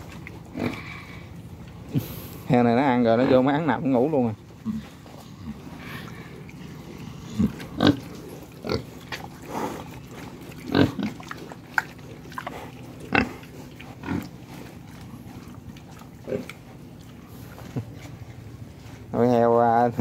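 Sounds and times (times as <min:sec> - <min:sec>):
young pigs grunting: 0:00.0 - 0:18.4.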